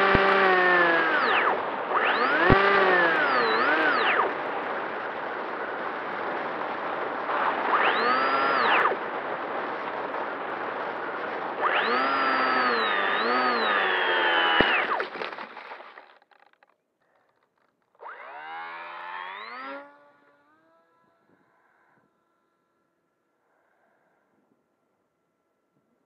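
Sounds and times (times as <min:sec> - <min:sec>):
model plane electric motor whine: 0:00.0 - 0:15.0, 0:17.6 - 0:23.4.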